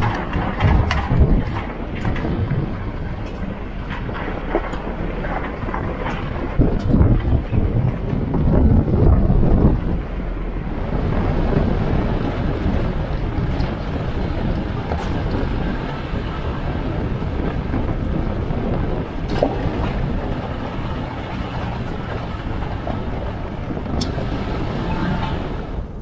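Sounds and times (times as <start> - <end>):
tyres rumbling on gravel: 0.0 - 26.0.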